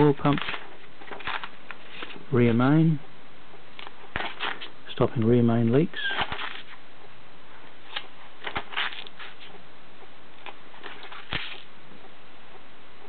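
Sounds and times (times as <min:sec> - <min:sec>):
faint rustles: 0:00.0 - 0:13.0.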